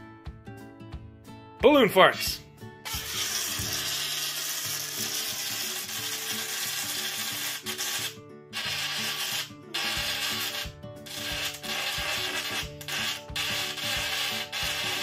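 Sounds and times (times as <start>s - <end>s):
balloon deflating raspy hiss: 2.9s - 15.0s.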